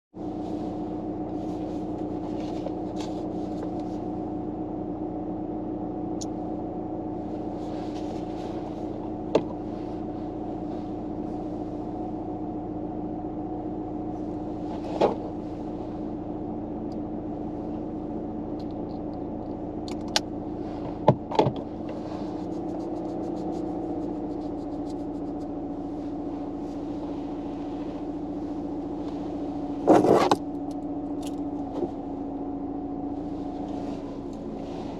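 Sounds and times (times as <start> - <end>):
mechanical hum inside car: 0.1 - 34.9.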